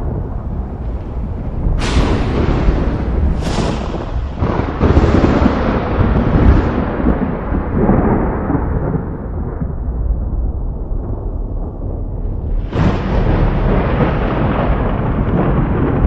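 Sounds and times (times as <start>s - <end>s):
thunder cracking and rumbling: 0.0s - 16.0s.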